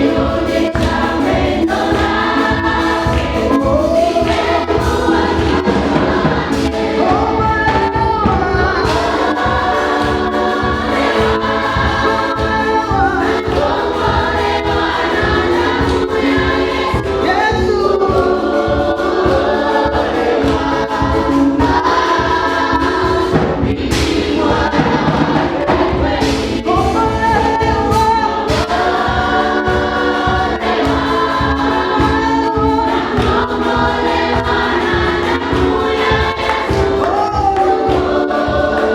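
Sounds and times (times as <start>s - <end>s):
band with steady beat: 0.0s - 38.9s
gospel choir singing: 0.0s - 38.9s.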